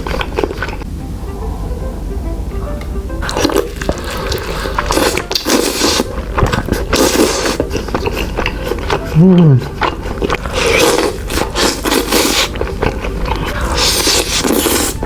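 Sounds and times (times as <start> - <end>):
wet squishy chewing: 0.0 - 0.9, 3.2 - 15.0
light background music: 0.8 - 15.0.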